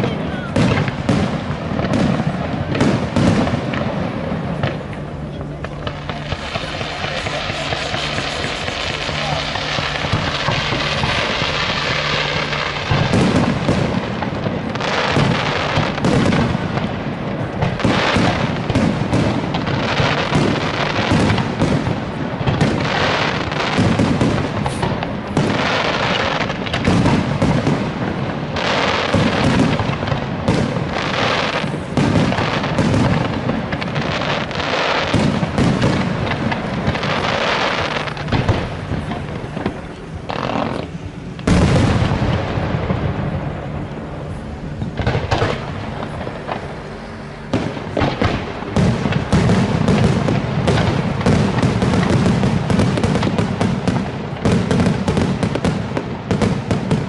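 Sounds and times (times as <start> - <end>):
fireworks shells bursting with crackle: 0.0 - 43.2, 44.8 - 46.9, 47.5 - 57.0.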